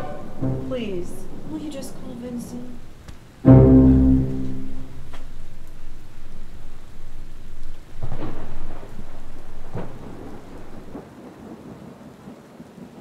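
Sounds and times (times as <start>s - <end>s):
thunder rolling: 0.0s - 12.0s
rain: 0.0s - 13.0s.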